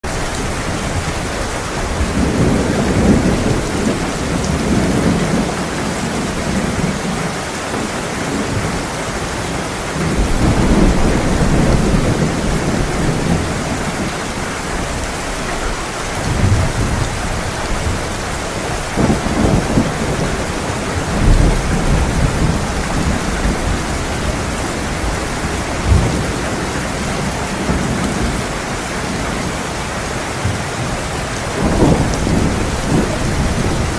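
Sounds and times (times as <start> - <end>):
thunder rumbling: 0.0 - 7.0, 9.6 - 28.5, 31.4 - 33.9
heavy rain pouring: 0.0 - 33.9.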